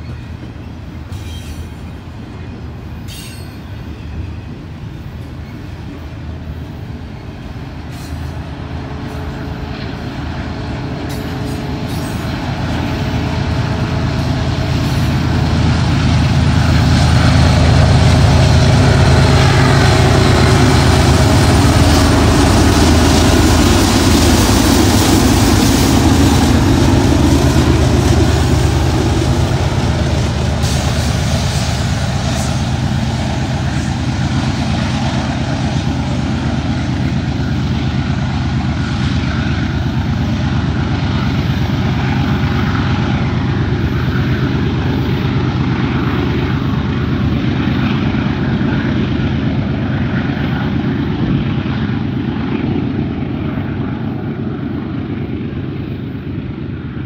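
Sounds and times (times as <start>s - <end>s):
diesel locomotive engines droning: 0.0s - 57.0s
train rolling noise: 0.0s - 57.0s.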